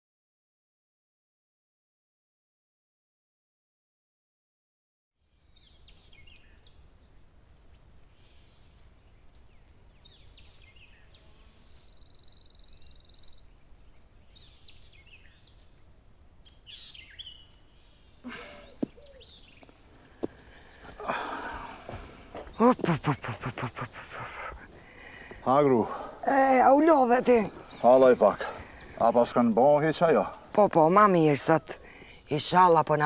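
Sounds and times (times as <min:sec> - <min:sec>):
songbirds chirping: 0:05.2 - 0:33.0
low outdoor hum: 0:05.3 - 0:33.0.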